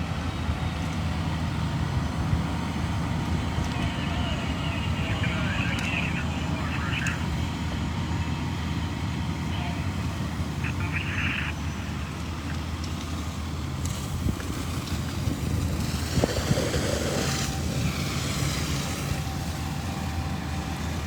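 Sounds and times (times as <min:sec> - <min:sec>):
fire engines running: 0:00.0 - 0:21.0.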